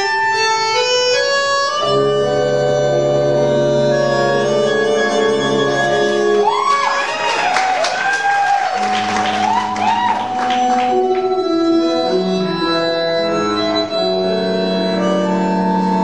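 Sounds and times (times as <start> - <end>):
tango music: 0.0 - 8.0, 8.7 - 16.0.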